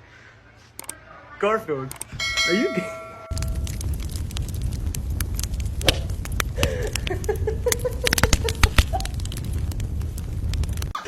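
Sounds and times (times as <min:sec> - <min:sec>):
steady low rumble: 0:02.0 - 0:11.0.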